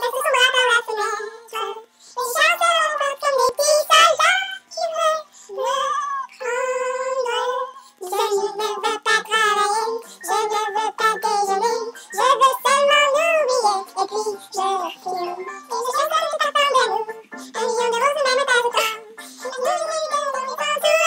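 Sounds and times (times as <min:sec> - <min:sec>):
women singing in high voices: 0:00.0 - 0:21.0.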